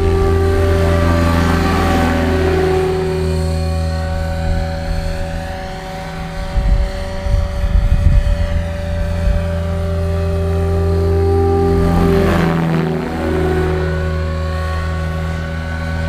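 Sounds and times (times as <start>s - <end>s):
low rumbling: 0.0s - 16.0s
rc helicopter rotor whirring: 0.0s - 16.0s.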